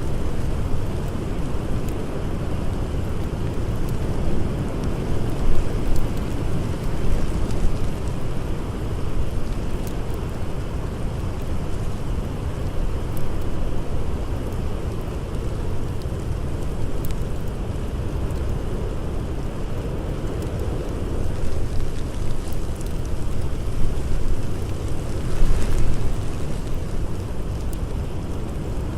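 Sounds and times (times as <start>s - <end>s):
blizzard wind blowing: 0.0s - 28.9s
campfire crackling: 0.0s - 28.9s.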